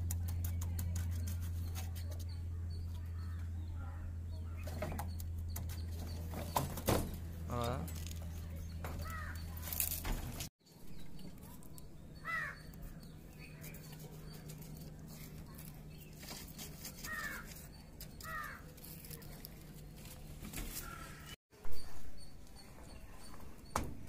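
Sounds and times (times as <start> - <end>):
bird calling: 1.6 - 9.7, 10.8 - 19.5, 20.4 - 23.6.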